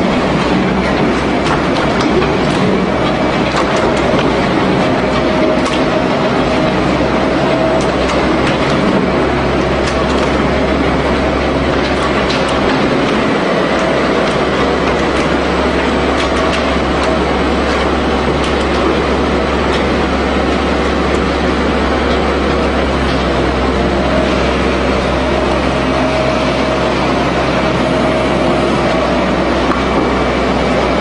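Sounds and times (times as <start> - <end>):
meat mincer running: 0.0 - 31.0.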